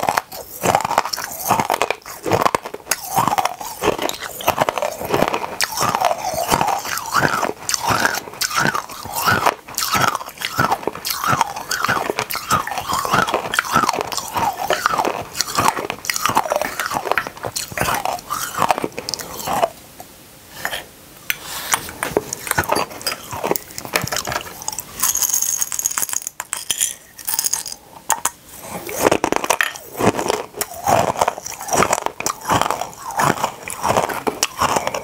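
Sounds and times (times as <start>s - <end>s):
hard candies being crunched: 0.0s - 19.7s, 22.2s - 35.0s.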